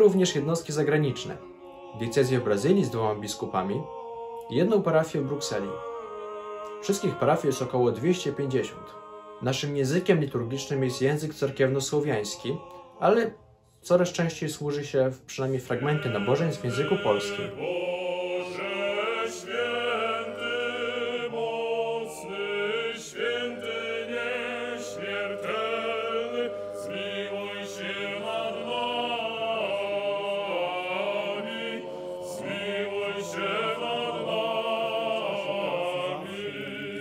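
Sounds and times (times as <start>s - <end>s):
choir singing unaccompanied chant: 0.0s - 13.4s, 15.6s - 37.0s.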